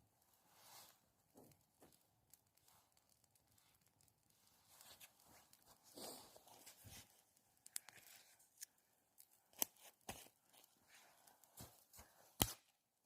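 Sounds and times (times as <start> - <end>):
campfire crackling: 1.0 - 12.5.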